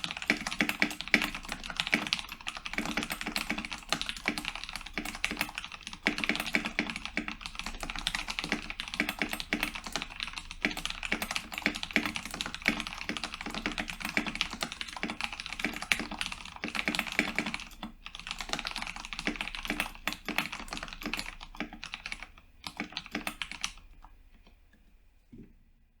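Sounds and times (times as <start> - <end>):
mechanical keyboard typing: 0.0 - 24.1.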